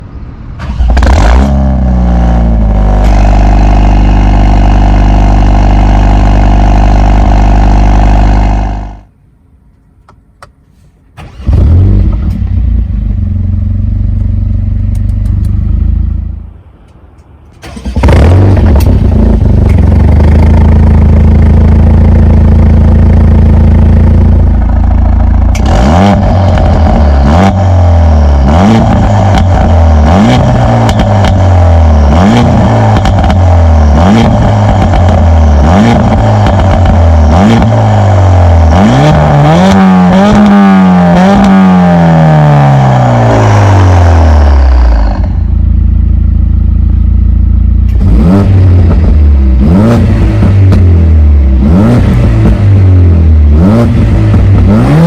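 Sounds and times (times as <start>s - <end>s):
car engine starting and revving: 0.5s - 9.1s, 11.2s - 16.7s, 17.4s - 55.0s.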